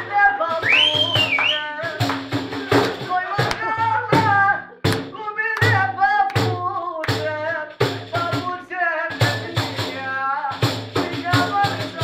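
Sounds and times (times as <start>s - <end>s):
frame drum steady beat: 0.0s - 12.0s
man singing ornamented lines: 0.0s - 12.0s.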